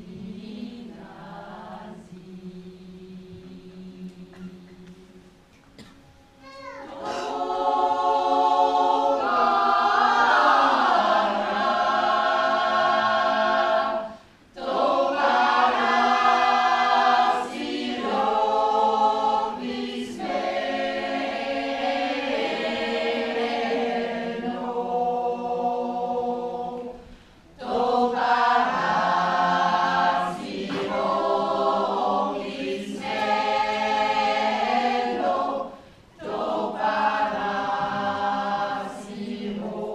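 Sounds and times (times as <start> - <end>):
mixed choir singing: 0.0 - 5.4, 6.8 - 39.9.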